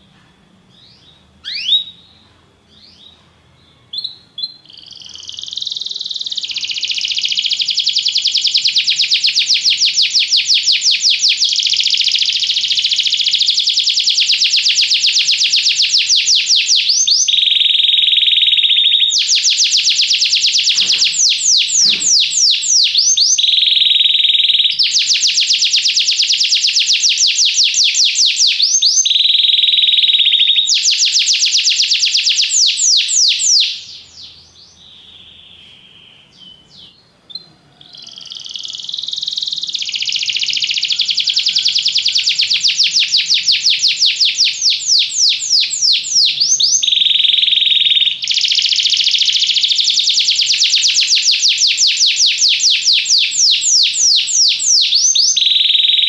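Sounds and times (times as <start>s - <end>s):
canary singing: 0.7s - 56.0s.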